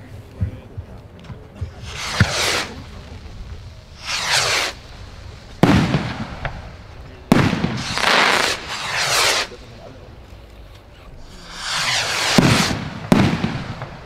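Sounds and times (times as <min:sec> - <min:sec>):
firework bursts banging: 0:00.4 - 0:10.2, 0:11.1 - 0:14.0
rockets whooshing: 0:01.6 - 0:14.0.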